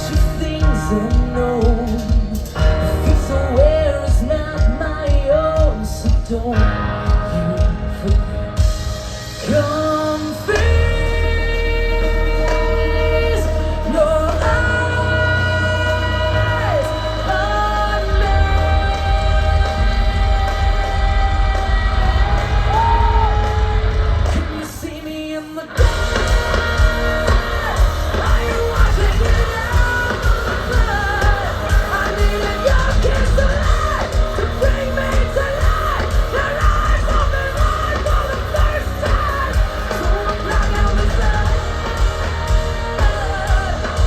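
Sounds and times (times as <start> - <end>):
rock music with singer: 0.0 - 44.0.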